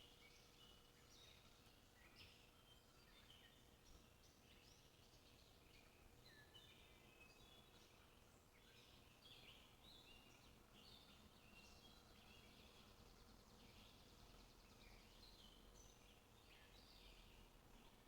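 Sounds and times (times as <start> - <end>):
low background hiss: 0.0 - 18.0.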